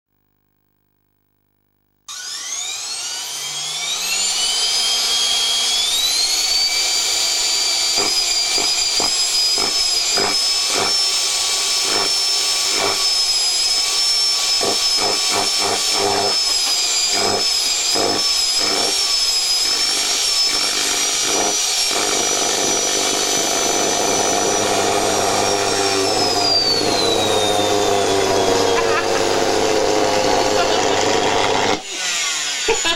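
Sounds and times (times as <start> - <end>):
vacuum cleaner motor whine: 2.1 - 32.9.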